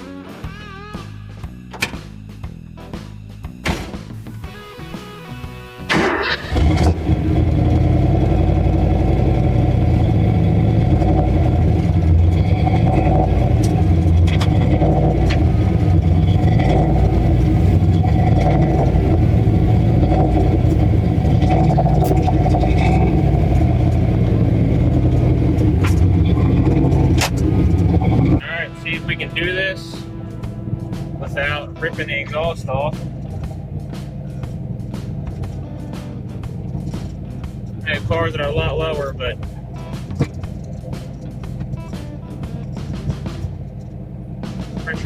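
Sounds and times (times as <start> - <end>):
car engine running loud: 4.3 - 28.5, 30.0 - 45.0.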